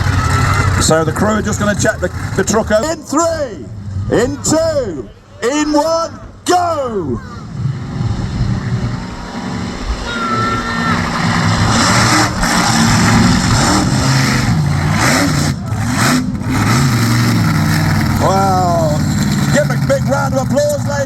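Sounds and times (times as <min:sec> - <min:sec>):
truck engine revving hard: 0:00.0 - 0:04.9, 0:07.2 - 0:21.0.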